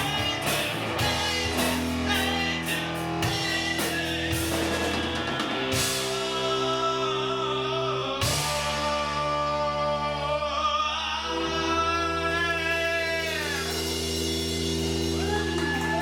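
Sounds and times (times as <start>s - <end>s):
person singing: 0.0s - 14.4s
rock band playing: 0.0s - 16.0s.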